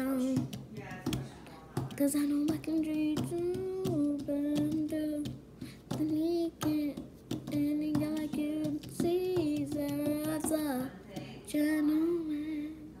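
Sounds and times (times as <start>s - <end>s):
girl singing: 0.0s - 13.0s.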